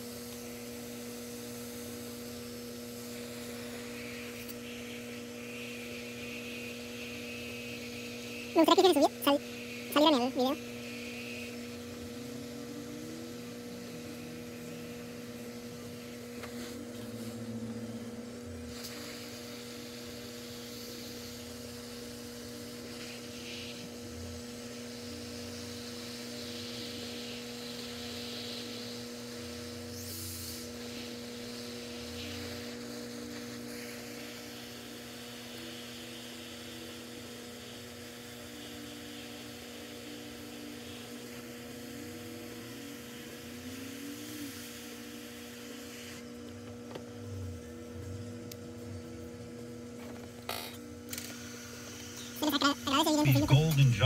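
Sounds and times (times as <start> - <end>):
electrical hum with faint hiss: 0.0 - 54.0.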